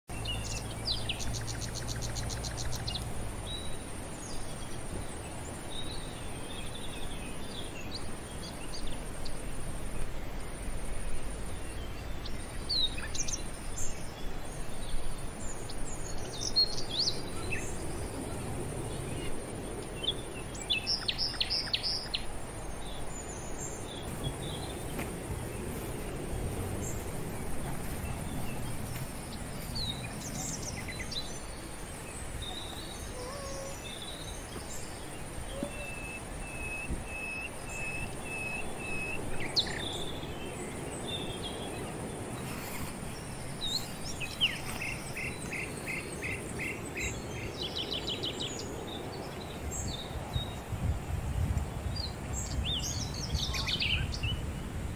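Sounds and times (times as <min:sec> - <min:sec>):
birds chirping: 0:00.1 - 0:54.8
open air hiss: 0:00.1 - 0:54.9
insect drone: 0:00.2 - 0:54.9.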